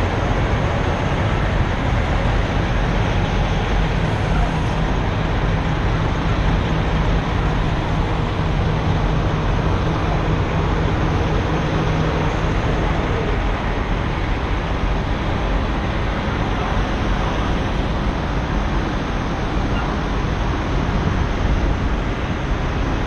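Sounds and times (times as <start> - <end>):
constant rushing noise: 0.0 - 23.0
semi trucks idling: 0.0 - 23.0.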